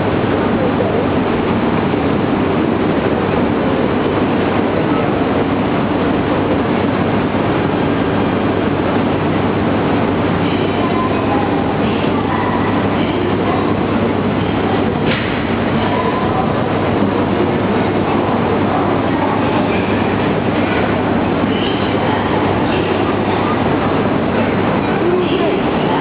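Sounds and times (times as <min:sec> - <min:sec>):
train rumbling at platform: 0:00.0 - 0:26.0.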